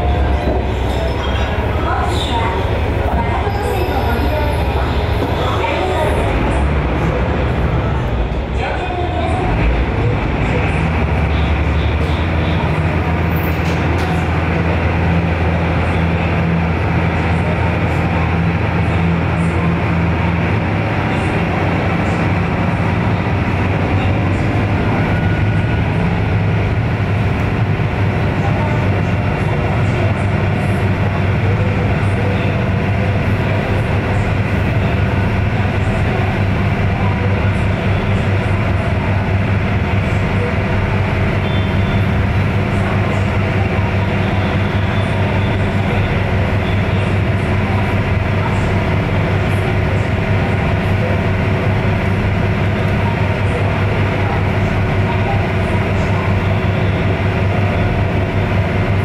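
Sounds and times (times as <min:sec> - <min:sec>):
ferry engine droning: 0:00.0 - 0:59.0.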